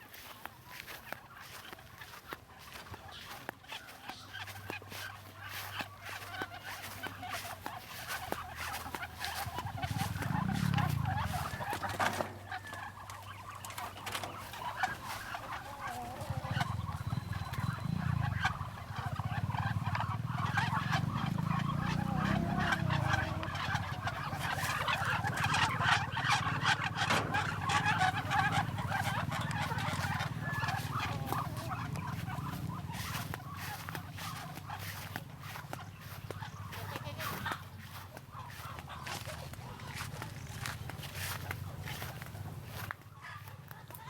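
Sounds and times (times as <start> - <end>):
poultry flock calling: 0.0 - 44.0.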